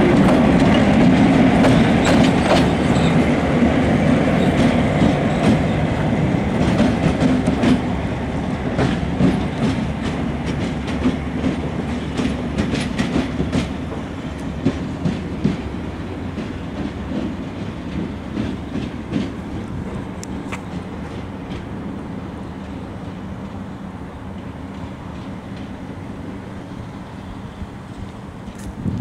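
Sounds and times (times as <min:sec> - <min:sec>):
wheels clacking over rail joints: 0:00.0 - 0:27.2
diesel locomotive engine rumbling: 0:00.0 - 0:29.0.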